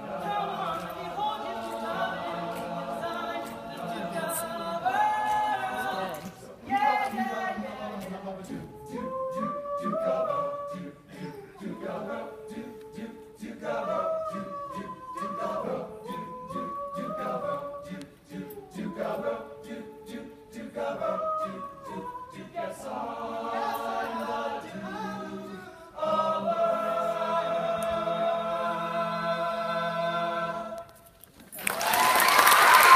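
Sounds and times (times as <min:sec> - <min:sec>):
male ensemble singing in harmony: 0:00.0 - 0:31.1.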